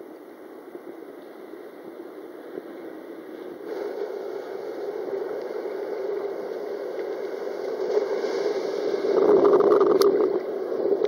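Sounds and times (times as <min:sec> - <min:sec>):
ocean water rushing and sloshing: 0:00.0 - 0:11.0.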